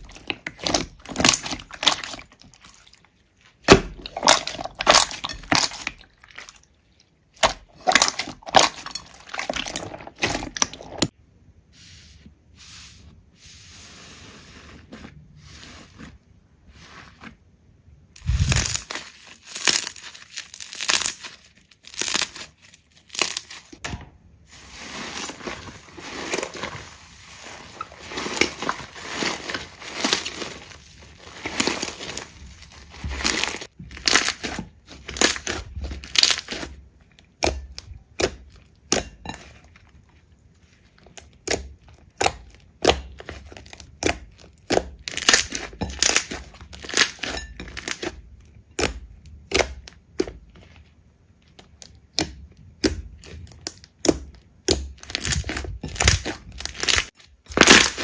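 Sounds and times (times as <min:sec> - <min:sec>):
slime crackling and squishing: 0:00.0 - 0:11.2, 0:18.2 - 0:23.8, 0:24.5 - 0:58.0.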